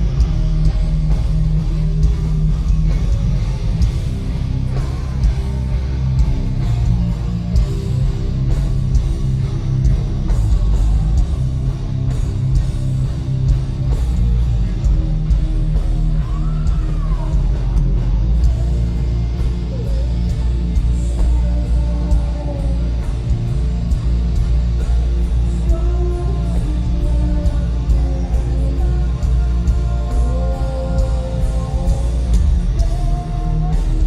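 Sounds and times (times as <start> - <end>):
bass guitar: 0.0 - 34.0
distorted electric guitars: 0.0 - 34.0
drums: 0.0 - 34.0.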